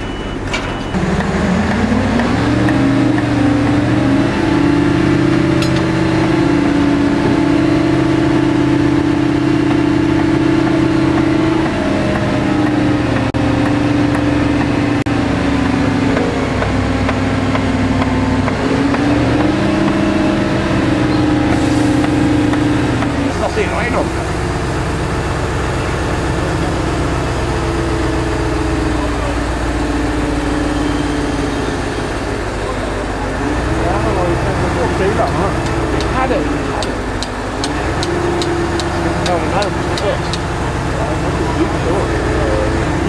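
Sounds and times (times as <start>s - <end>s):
crane diesel engine revving: 0.0s - 43.0s.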